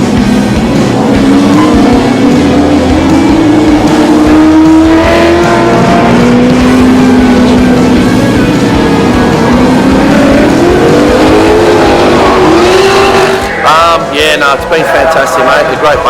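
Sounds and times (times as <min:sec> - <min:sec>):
racing car engine at full throttle: 0:00.0 - 0:16.0.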